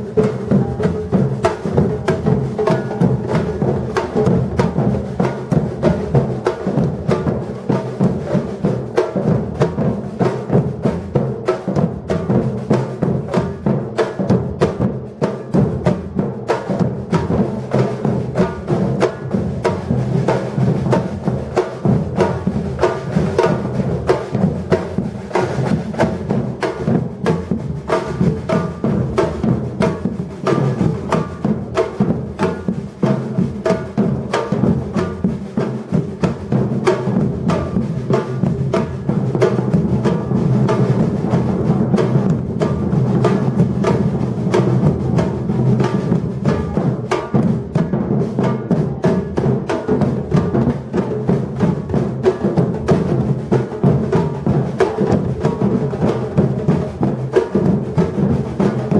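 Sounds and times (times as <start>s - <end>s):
drum ensemble playing: 0.0s - 58.9s.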